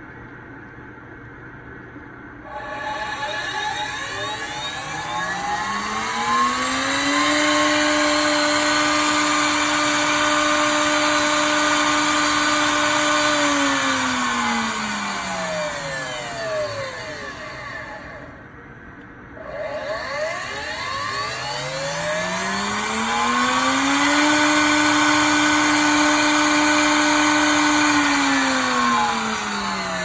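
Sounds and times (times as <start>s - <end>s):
spindle motor whine: 2.4s - 30.0s.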